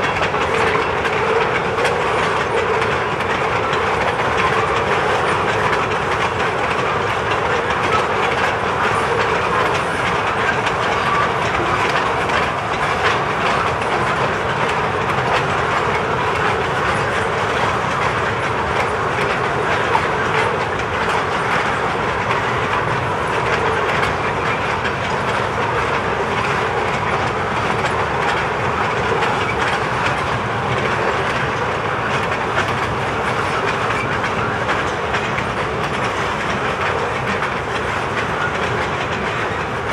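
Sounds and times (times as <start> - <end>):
freight train rolling past: 0.0 - 39.9
wheels clicking over rail joints: 0.0 - 39.9.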